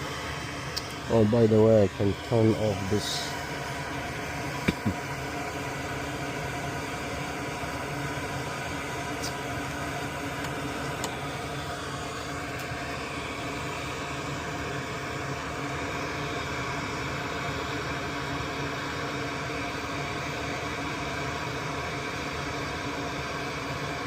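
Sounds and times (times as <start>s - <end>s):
faint fan hum: 0.0s - 24.0s
hot air blower rushing: 0.0s - 24.0s.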